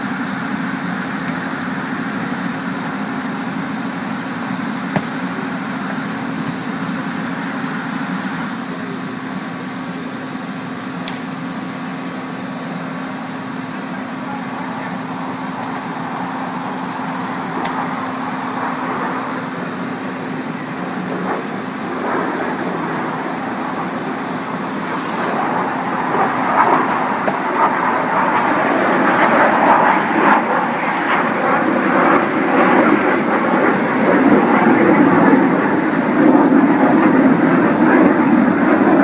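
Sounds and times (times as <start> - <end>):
engine humming: 0.0 - 39.0
mechanical and traffic noise: 0.0 - 39.0.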